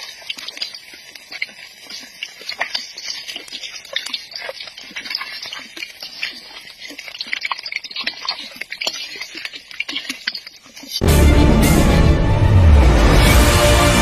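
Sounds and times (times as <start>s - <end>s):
hot oil sizzling and popping: 0.0s - 11.9s.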